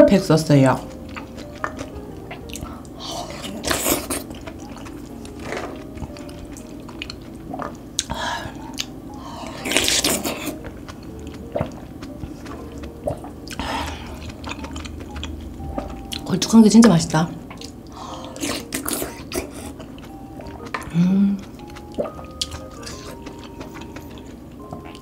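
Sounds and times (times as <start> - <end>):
person slurping and chewing soup: 0.9 - 16.2, 17.5 - 25.0.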